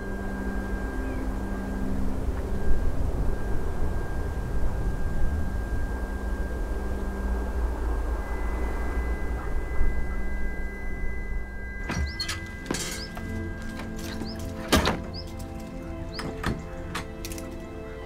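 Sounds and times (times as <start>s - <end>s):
high ringing tones: 0.0s - 16.9s
low rumble drone: 0.0s - 18.0s.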